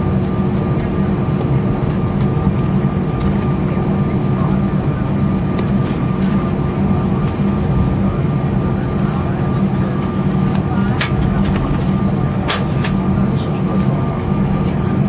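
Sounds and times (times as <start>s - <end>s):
jet engines idling rumble: 0.0s - 15.0s.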